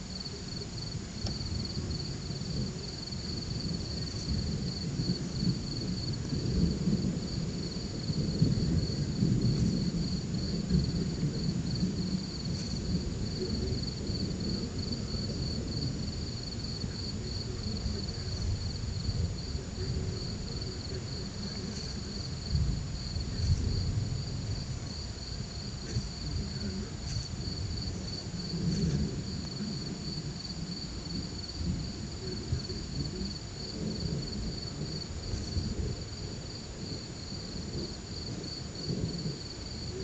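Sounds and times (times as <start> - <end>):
crickets chirping: 0.0 - 40.0
distant thunder rumble: 0.0 - 40.0.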